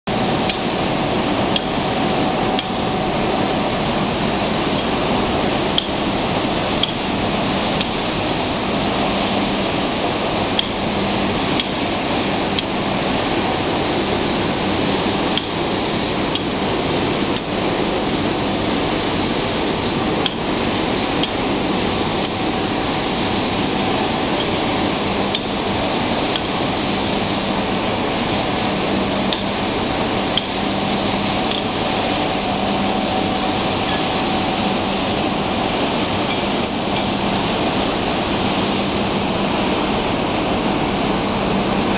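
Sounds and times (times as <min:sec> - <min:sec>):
heavy machinery humming: 0:00.1 - 0:41.9.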